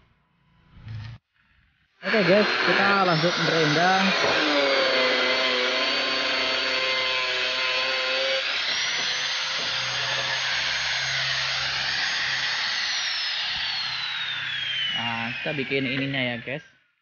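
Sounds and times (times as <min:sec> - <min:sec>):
angle grinder cutting steel: 0:02.0 - 0:16.6.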